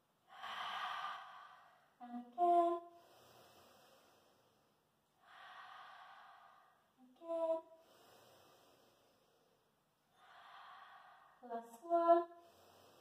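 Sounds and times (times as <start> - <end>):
woman breathing slowly: 0.2 - 2.0, 2.8 - 7.0, 7.6 - 11.6, 12.2 - 13.0.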